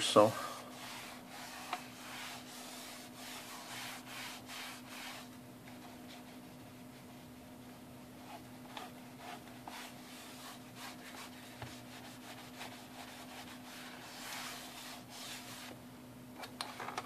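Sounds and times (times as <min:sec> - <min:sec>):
cloth rubbing plastic: 0:00.7 - 0:07.3, 0:08.2 - 0:15.8.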